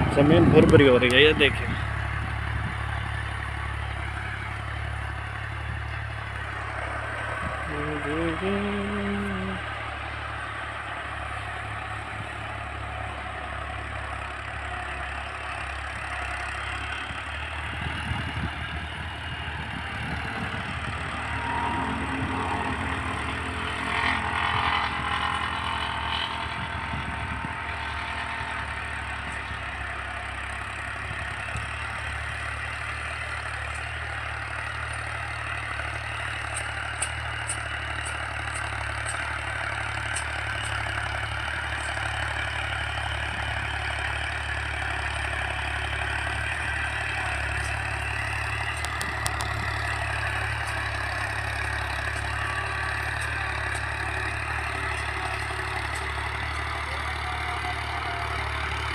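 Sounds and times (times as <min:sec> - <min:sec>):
tractor diesel engine under load: 0:00.0 - 0:58.9.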